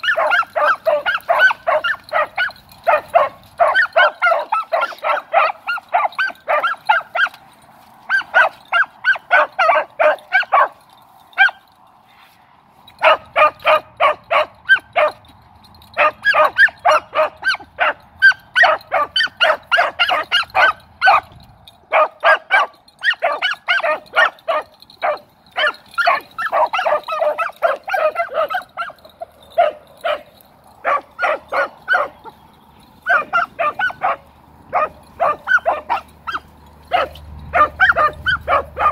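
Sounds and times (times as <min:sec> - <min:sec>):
hound barks: 0:00.0 - 0:11.7, 0:13.0 - 0:38.9.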